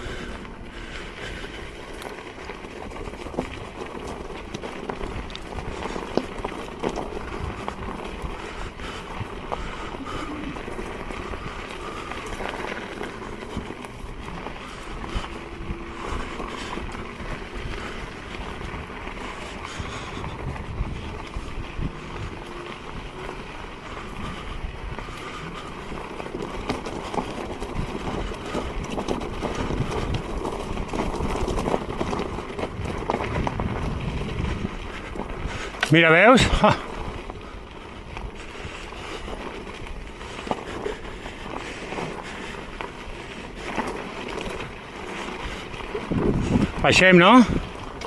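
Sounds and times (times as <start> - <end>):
tyre crunching on dirt: 0.0 - 48.0
wind rumbling on microphone: 0.0 - 48.0.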